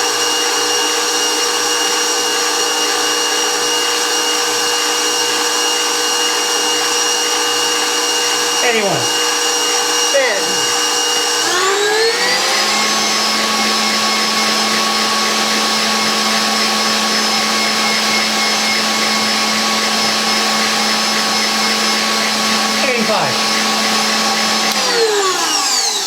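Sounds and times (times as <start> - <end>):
stand mixer motor whine: 0.0 - 26.0.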